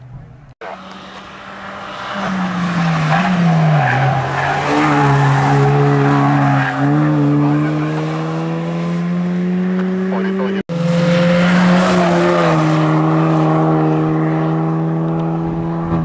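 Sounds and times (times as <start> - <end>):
race car engine: 0.0 - 16.0.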